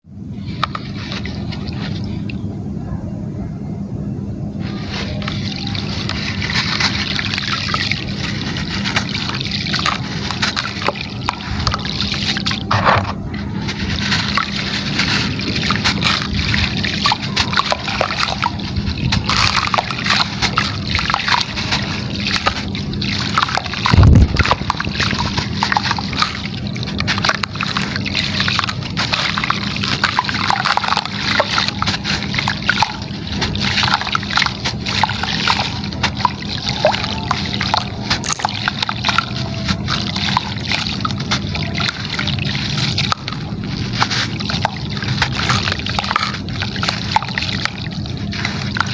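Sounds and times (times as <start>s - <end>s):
steady low hum: 0.0s - 48.9s
gritty material splashing into water: 4.6s - 12.7s, 13.4s - 48.9s.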